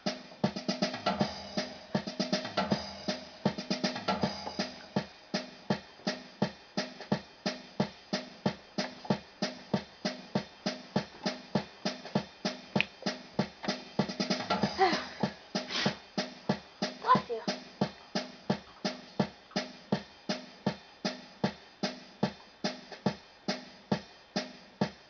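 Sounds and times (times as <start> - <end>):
electronic keyboard drum beat: 0.0 - 25.0.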